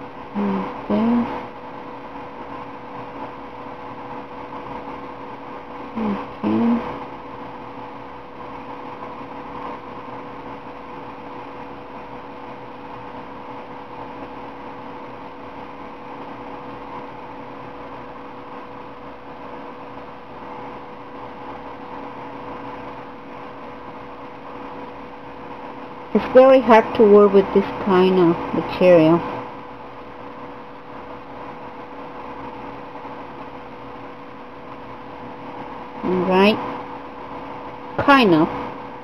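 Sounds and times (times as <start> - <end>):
machine hum with pitched tone: 0.0 - 39.0.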